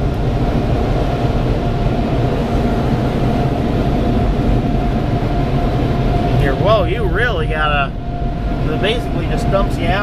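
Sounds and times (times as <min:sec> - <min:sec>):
blower dryers blasting air: 0:00.0 - 0:10.0
thin steady whine: 0:00.0 - 0:10.0.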